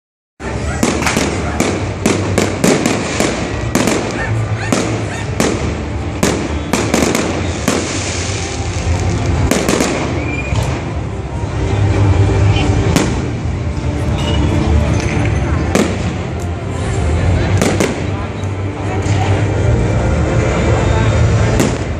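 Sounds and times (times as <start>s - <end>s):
fireworks bangs and crackles: 0.4s - 21.9s.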